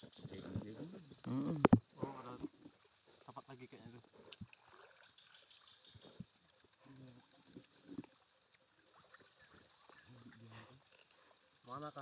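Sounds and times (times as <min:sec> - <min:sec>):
water sloshing from wading: 0:00.0 - 0:11.7.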